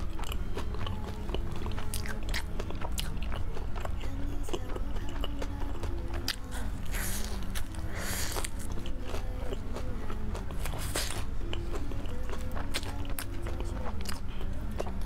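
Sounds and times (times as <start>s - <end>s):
chewing crunchy fried food: 0.0s - 15.0s.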